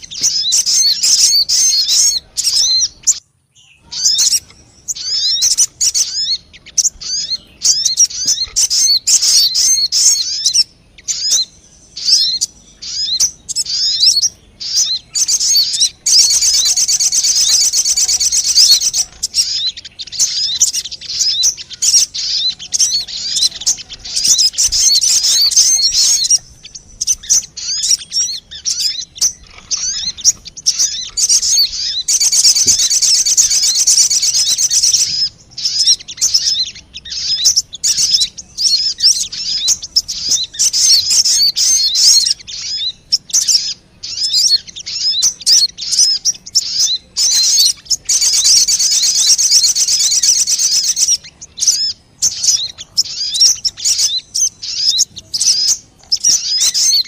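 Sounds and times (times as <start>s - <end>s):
bird chirps and trills: 0.0s - 57.0s.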